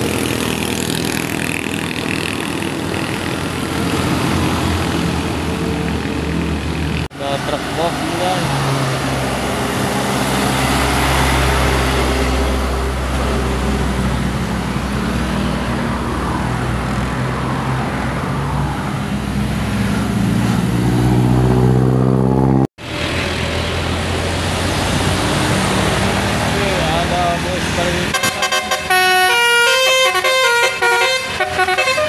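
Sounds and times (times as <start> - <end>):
diesel engine pulling uphill: 0.0 - 32.0
road traffic: 0.0 - 32.0.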